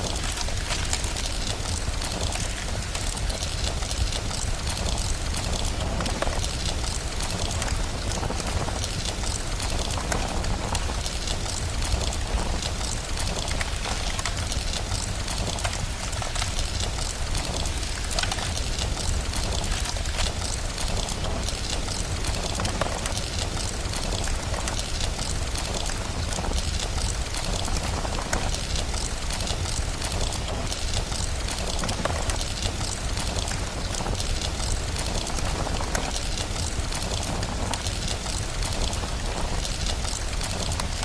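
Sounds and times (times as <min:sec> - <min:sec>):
fireplace crackles: 0:00.0 - 0:41.0
heavy rain: 0:00.0 - 0:41.0.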